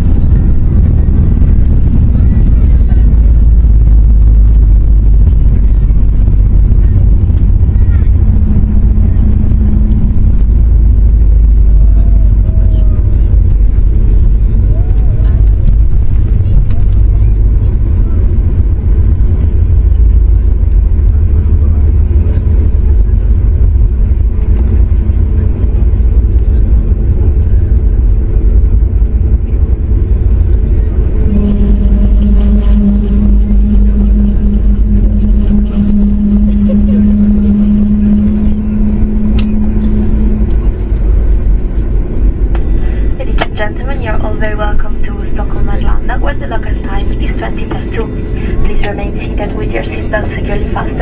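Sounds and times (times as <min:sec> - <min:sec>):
airliner cabin low rumble: 0:00.0 - 0:51.0
steady hum: 0:00.0 - 0:51.0.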